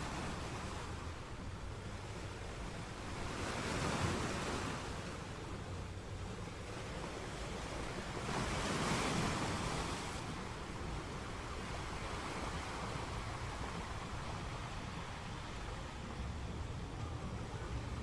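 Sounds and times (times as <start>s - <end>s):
waves rushing onto shore: 0.0s - 18.0s.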